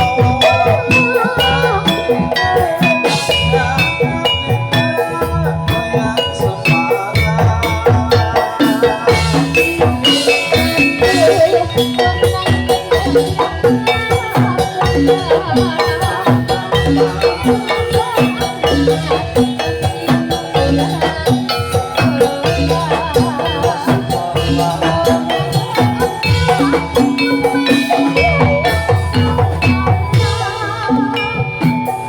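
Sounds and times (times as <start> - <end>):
hand drums: 0.0 - 32.0
metallophones ringing a melody: 0.0 - 32.0.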